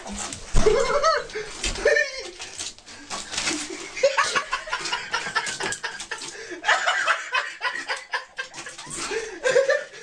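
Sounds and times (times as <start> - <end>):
person chuckling: 0.6 - 2.5, 3.5 - 10.0.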